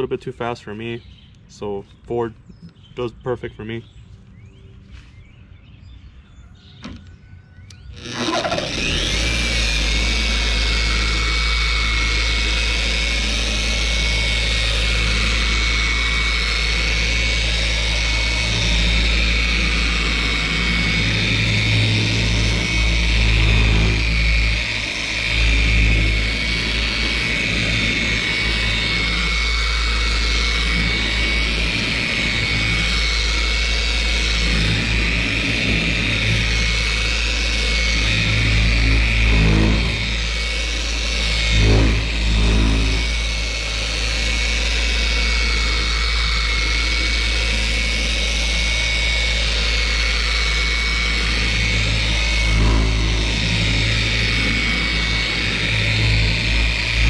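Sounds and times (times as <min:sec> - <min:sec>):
electric polisher whining: 0:07.7 - 0:57.0.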